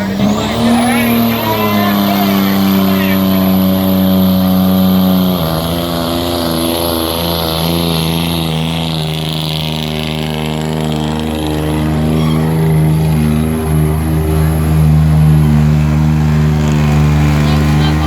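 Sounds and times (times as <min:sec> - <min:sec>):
diesel engine at high revs: 0:00.0 - 0:18.0.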